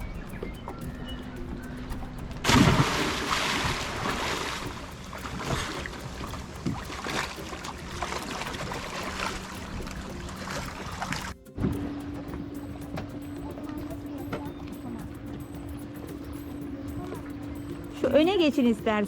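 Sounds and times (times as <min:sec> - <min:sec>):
rushing water: 0:00.0 - 0:18.7
wind noise on microphone: 0:00.0 - 0:19.0.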